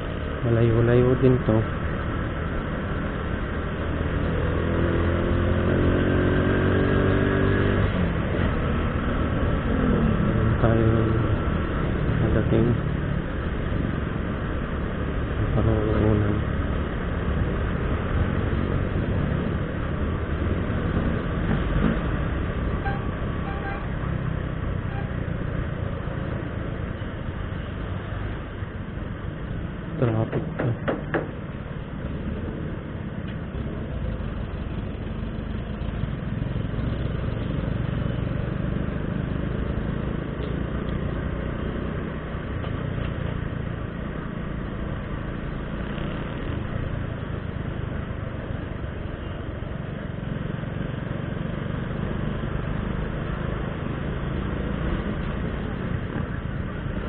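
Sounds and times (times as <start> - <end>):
passing vehicles: 0.0 - 57.0
wind: 0.0 - 57.0
motorcycle engine: 1.8 - 28.7, 30.0 - 57.0.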